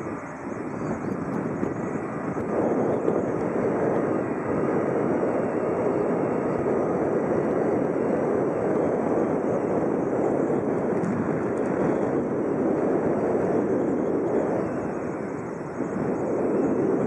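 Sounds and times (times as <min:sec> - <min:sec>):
distant jet engines running: 0:00.0 - 0:17.0.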